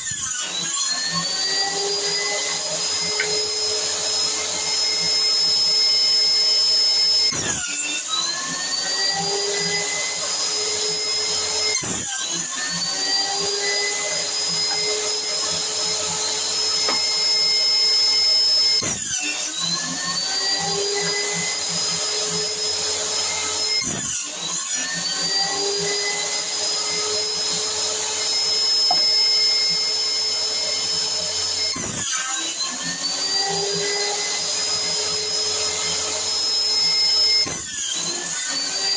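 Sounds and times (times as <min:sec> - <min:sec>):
saw motor whining and bogging down: 0:00.0 - 0:38.9.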